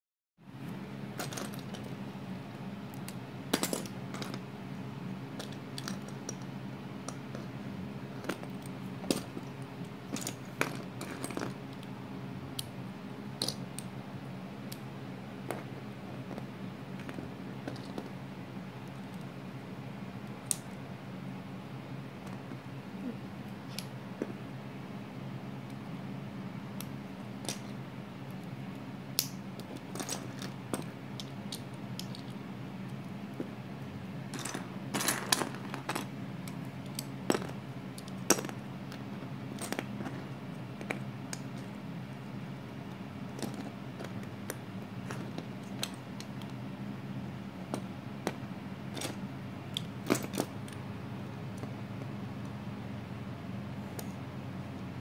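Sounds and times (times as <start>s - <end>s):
steady low hum: 0.4s - 55.0s.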